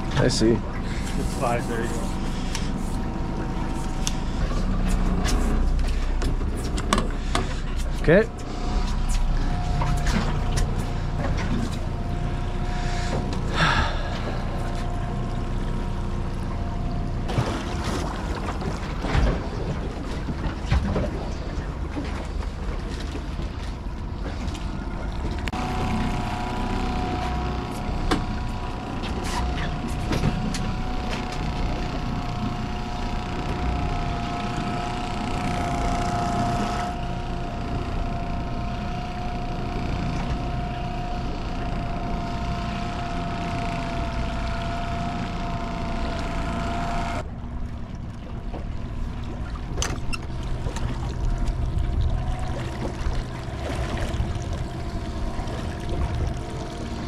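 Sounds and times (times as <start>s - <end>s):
mechanical whine: 0.0s - 57.0s
motorboat engine running: 0.0s - 57.0s
water noise: 0.0s - 57.0s.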